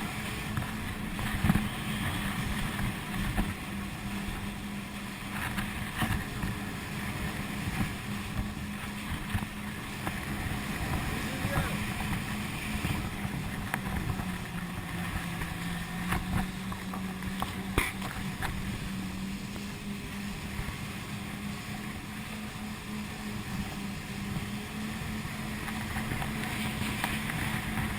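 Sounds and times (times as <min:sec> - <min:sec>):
jet ski engine humming: 0:00.0 - 0:27.9
water noise: 0:00.0 - 0:27.9
wind: 0:00.0 - 0:27.9.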